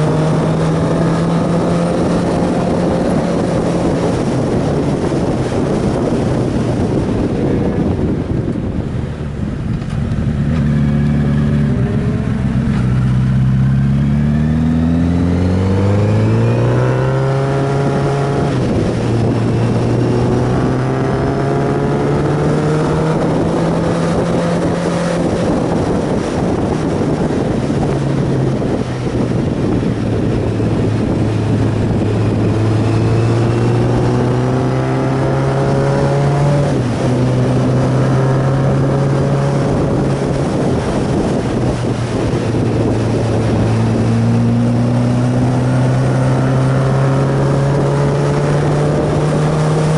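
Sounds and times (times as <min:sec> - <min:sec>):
motorcycle engine revving: 0:00.0 - 0:49.9
wind on microphone: 0:00.0 - 0:49.9.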